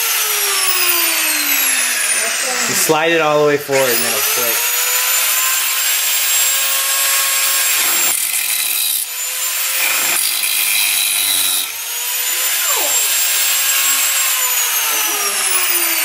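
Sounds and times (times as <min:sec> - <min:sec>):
power tool whining cutting wood: 0:00.0 - 0:16.0.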